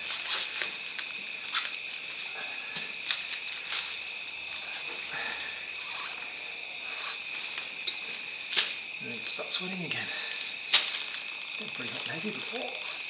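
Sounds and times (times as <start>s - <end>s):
high insect chorus: 0.0s - 13.0s.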